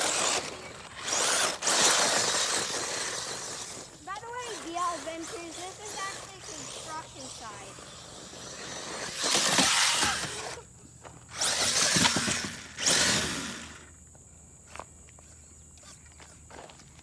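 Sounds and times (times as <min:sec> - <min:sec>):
rc truck tyres spinning in dirt: 0:00.0 - 0:14.0.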